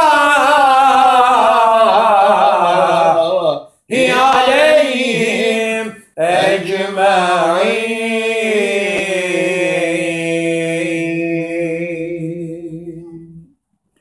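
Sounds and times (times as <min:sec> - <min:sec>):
man chanting a prayer: 0:00.0 - 0:13.4.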